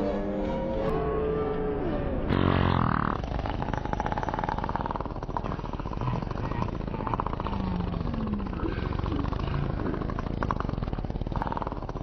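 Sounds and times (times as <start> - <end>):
slowed cartoon fart rasp: 2.3 - 12.0.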